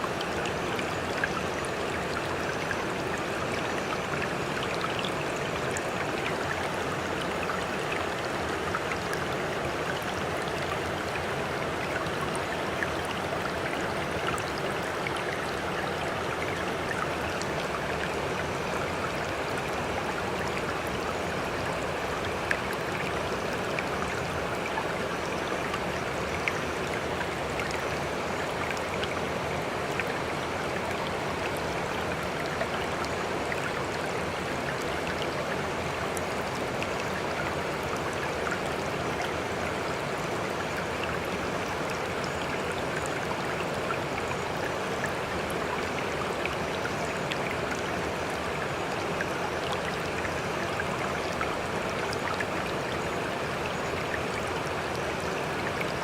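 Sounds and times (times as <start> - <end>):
water rushing and trickling: 0.0 - 56.0.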